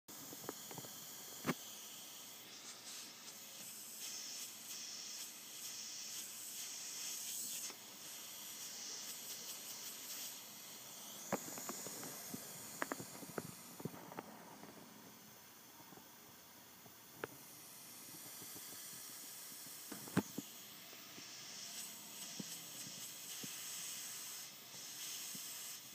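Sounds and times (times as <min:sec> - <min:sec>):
pressurised air hissing: 0:00.2 - 0:14.4, 0:17.4 - 0:25.9.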